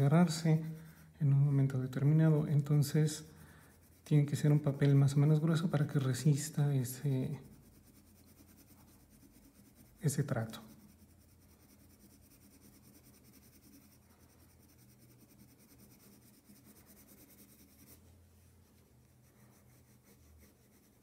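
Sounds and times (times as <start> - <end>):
pencil shading on paper: 0.0 - 18.0, 18.9 - 21.0.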